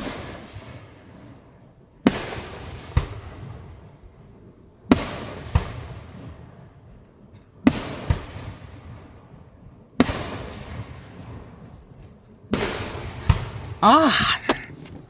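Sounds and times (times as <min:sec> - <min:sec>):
fireworks shells exploding: 0:00.0 - 0:03.8, 0:04.4 - 0:15.0.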